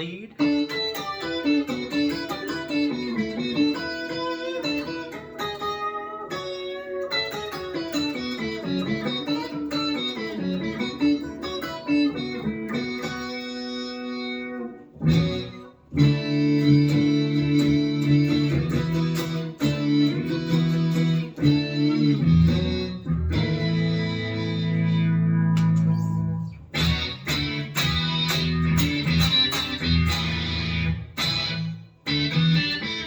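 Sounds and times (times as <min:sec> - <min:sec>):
synth lead guitar notes: 0:00.0 - 0:33.0.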